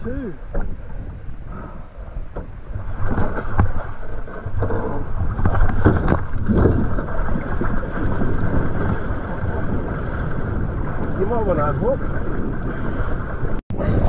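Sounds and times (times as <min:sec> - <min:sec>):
water splashing along hull: 0:00.0 - 0:14.0
wind buffeting microphone: 0:00.0 - 0:14.0.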